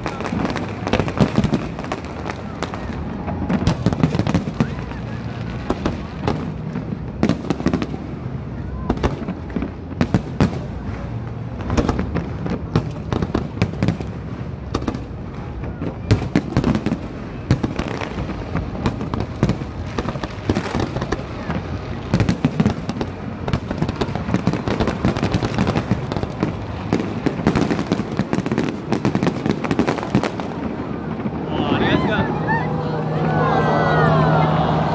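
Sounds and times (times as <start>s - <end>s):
fireworks bursting: 0.0s - 33.3s.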